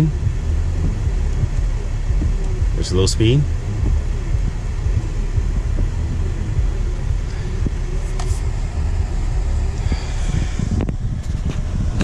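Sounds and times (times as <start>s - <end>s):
car cabin rumble: 0.0s - 12.0s
windshield wipers: 0.0s - 12.0s.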